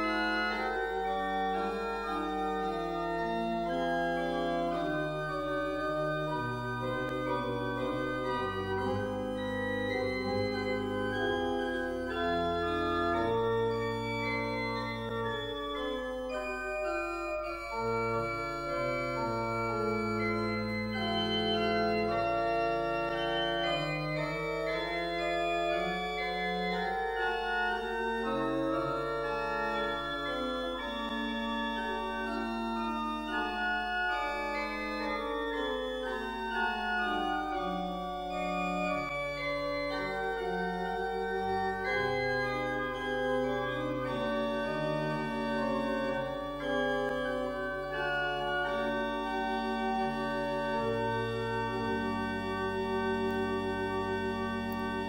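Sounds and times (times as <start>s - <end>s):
organ playing sustained chords: 0.0s - 55.0s.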